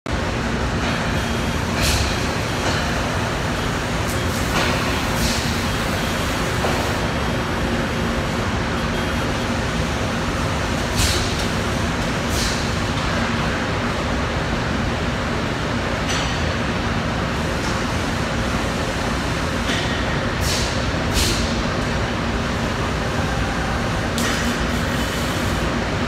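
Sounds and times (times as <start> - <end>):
machinery humming: 0.1 - 26.0.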